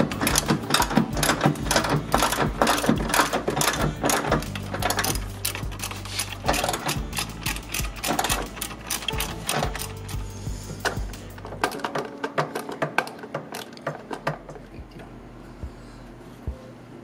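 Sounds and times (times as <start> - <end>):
socket ratchet clicking: 0.0 - 14.4.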